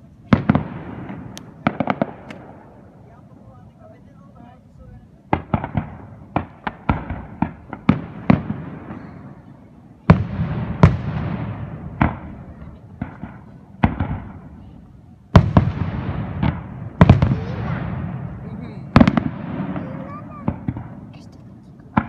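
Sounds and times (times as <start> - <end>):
fireworks bursting: 0.0 - 22.0
heavy firework booms echoing: 0.3 - 3.2, 5.3 - 21.2.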